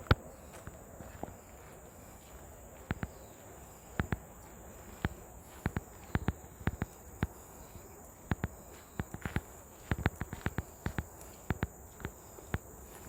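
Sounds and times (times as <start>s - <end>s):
footsteps clicking: 0.0s - 13.0s.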